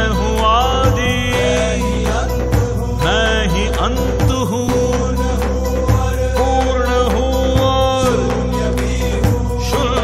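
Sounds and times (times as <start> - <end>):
bass line: 0.0 - 10.0.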